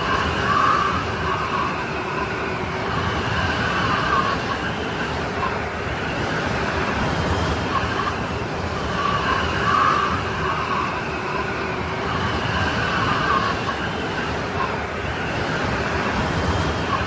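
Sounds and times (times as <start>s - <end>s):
wavering wind whistle: 0.0s - 17.0s.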